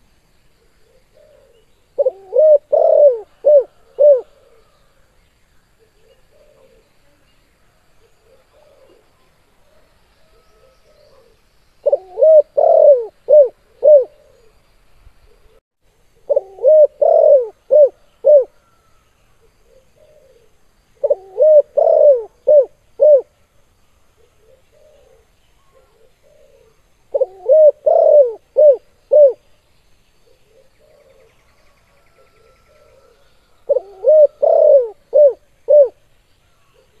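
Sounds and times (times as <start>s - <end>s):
dove cooing: 0.6s - 5.0s, 5.8s - 7.0s, 8.0s - 9.1s, 9.7s - 14.6s, 16.2s - 23.3s, 24.2s - 29.5s, 30.2s - 36.0s.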